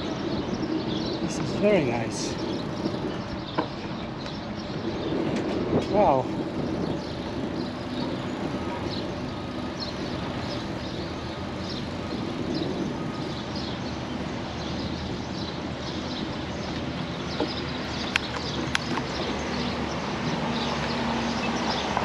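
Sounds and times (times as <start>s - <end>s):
bicycle riding on trail: 0.0s - 22.0s
birds chirping: 0.0s - 22.0s.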